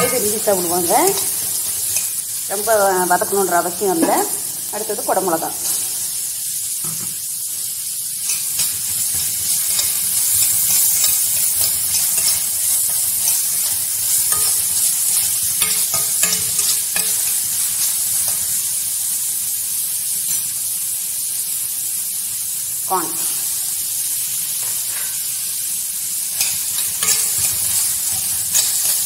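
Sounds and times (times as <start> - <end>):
vegetables sizzling in hot oil: 0.0 - 29.0.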